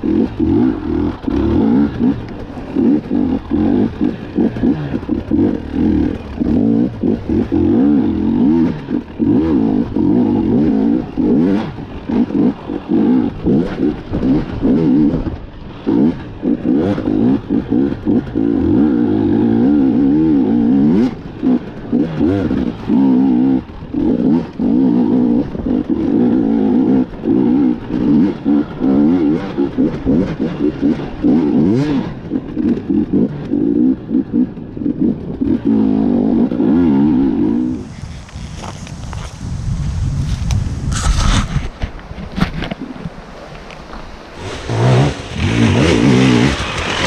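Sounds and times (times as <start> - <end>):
two-stroke dirt bike revving: 0.0 - 41.8, 44.1 - 47.0.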